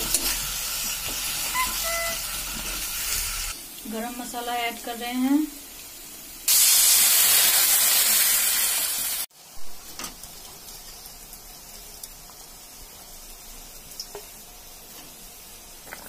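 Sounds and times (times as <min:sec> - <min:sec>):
hot masala sizzling loudly: 0:00.0 - 0:16.0.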